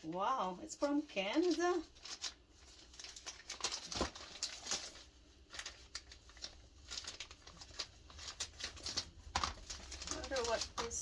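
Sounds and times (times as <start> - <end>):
package rustling and crinkling: 0.0 - 11.0
small clicks and crackles: 0.0 - 11.0.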